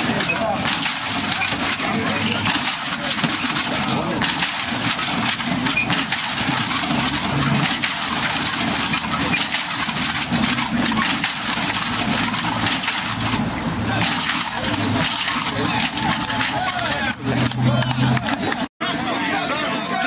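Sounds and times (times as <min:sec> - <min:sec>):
car engine idling: 0:00.0 - 0:18.7
crowd chatter: 0:00.0 - 0:20.0.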